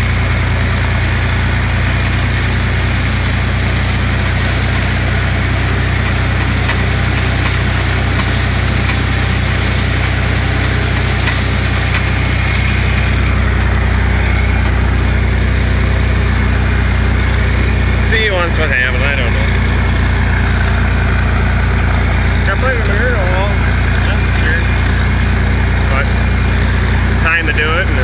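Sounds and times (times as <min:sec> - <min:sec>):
tractor engine drone: 0:00.0 - 0:28.0.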